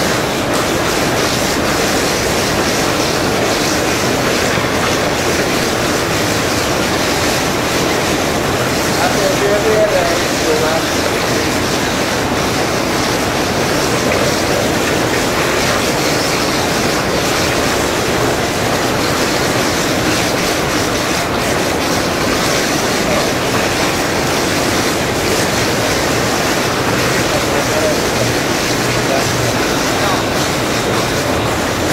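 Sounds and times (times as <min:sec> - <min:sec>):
whirlpool jets churning water: 0:00.0 - 0:31.9.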